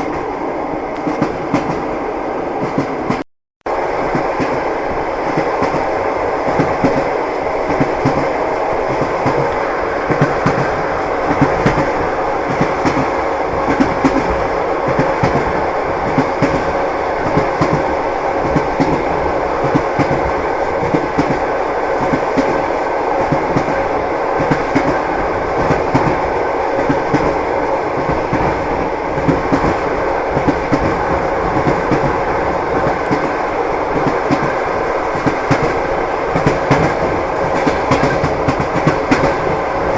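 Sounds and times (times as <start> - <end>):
train wheels clacking over rail joints: 6.5 - 39.9.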